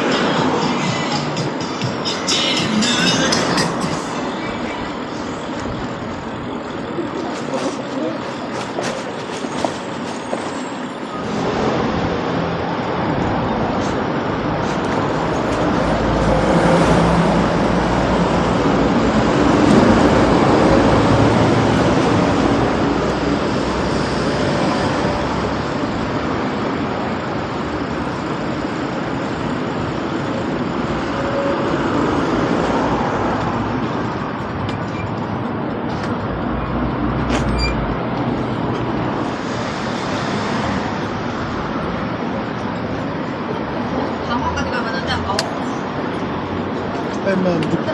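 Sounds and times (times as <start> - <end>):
heavy vehicle engine rumbling: 0.0 - 47.9
vehicles driving by: 0.0 - 47.9.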